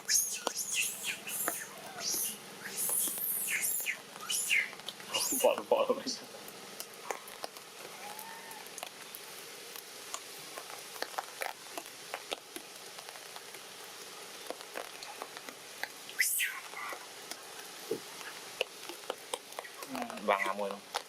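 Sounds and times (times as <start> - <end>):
rain hissing: 0.0 - 21.0
raindrops pattering: 0.0 - 21.0.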